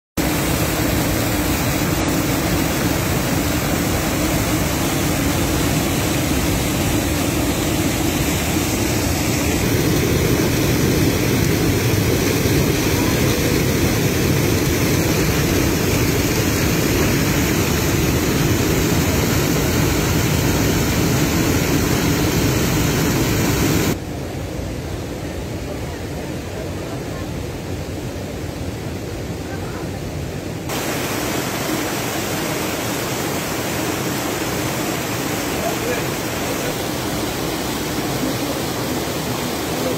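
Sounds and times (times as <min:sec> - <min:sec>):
water rushing down cascades: 0:00.2 - 0:24.0, 0:25.6 - 0:39.9.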